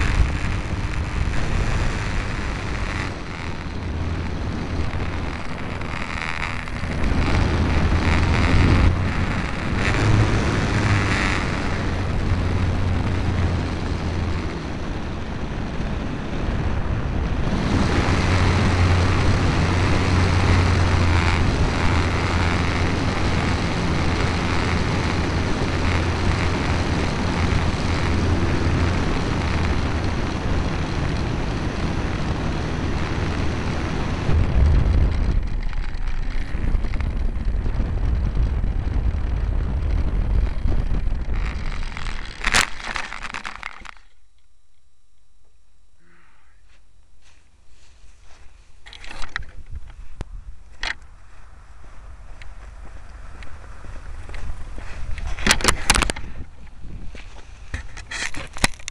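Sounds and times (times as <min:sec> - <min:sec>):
wind rush over microphone: 0:00.0 - 0:44.0, 0:48.9 - 0:58.9
electric motor and propeller: 0:00.0 - 0:44.5, 0:48.8 - 0:58.9.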